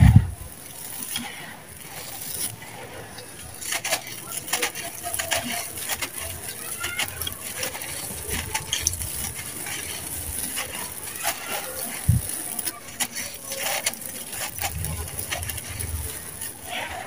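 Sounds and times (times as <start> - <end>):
sand pouring: 0.0 - 17.0
sand-cement chunks crumbling: 0.0 - 17.0.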